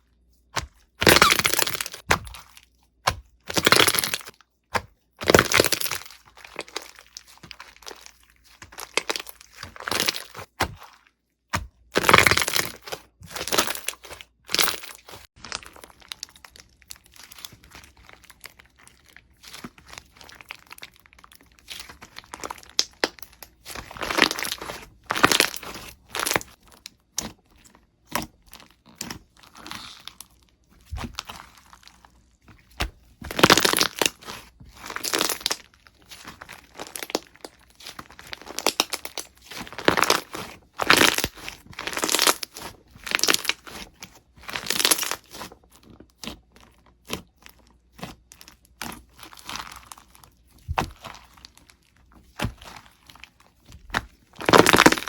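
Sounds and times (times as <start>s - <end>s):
crunchy slime crackling: 0.6s - 4.4s, 5.2s - 55.0s.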